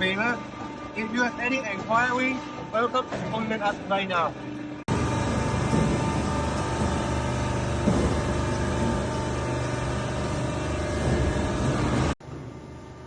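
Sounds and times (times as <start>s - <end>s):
baler machine hum: 0.0s - 13.0s.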